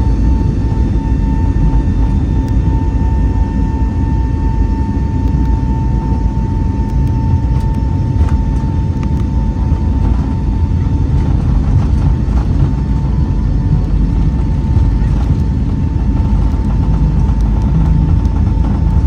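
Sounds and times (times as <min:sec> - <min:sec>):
jet engines rumbling: 0:00.0 - 0:19.0
thin steady whine: 0:00.0 - 0:19.0.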